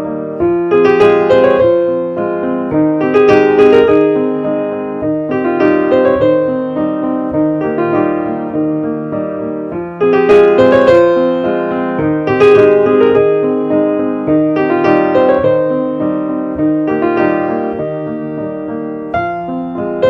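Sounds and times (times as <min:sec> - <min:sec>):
piano playing: 0:00.0 - 0:20.0.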